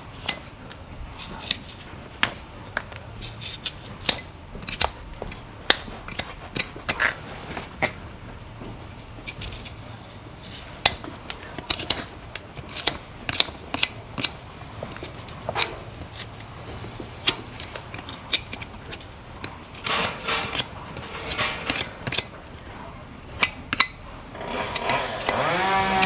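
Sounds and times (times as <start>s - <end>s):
hand tools clicking and scraping hoof: 0.0s - 26.0s
low steady hum: 0.0s - 26.0s.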